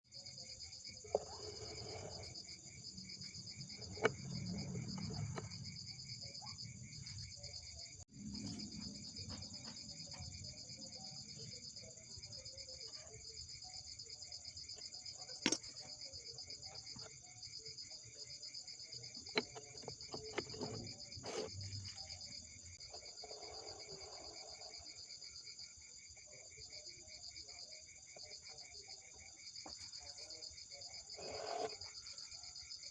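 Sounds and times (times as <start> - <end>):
insects chirring: 0.1 - 32.9.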